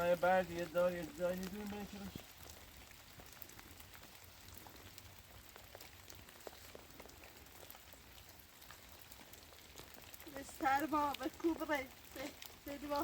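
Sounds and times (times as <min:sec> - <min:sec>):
rain hissing: 0:00.0 - 0:13.0
raindrops ticking: 0:00.0 - 0:13.0.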